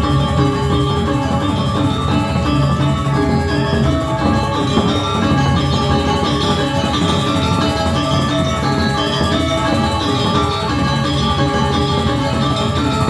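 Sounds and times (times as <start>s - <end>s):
drums: 0.0s - 13.0s
gamelan metallophones and gongs: 0.0s - 13.0s.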